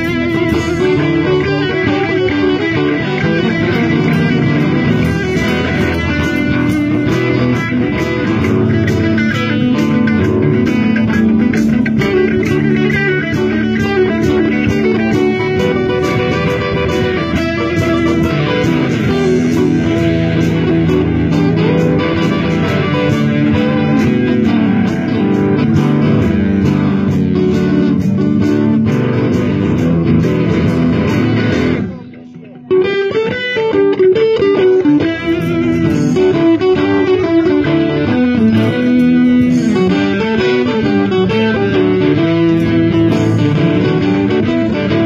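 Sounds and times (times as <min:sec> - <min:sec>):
electric guitar riff: 0:00.0 - 0:45.0
live rock band playing: 0:00.0 - 0:45.0.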